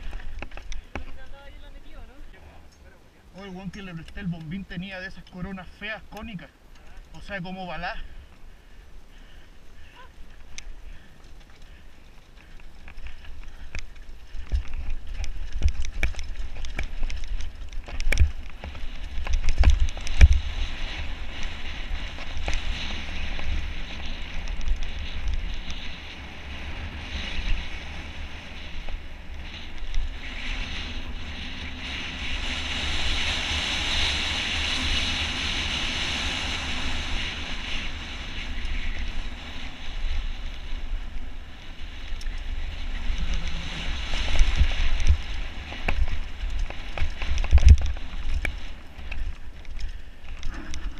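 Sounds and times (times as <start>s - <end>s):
bike rattling over rocks: 0.0s - 2.0s, 9.2s - 50.9s
wind buffeting microphone: 3.3s - 50.9s
tyres rushing on loose dirt: 7.0s - 50.9s.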